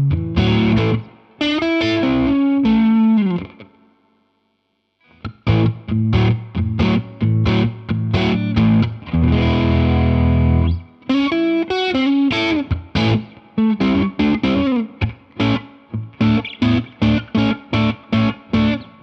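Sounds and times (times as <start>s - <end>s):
overdriven electric guitar: 0.0s - 4.2s, 5.0s - 19.0s.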